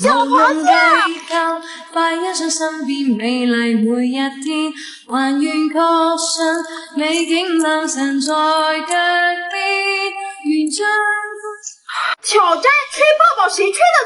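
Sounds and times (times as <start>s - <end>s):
woman singing slow melody: 0.0s - 11.8s.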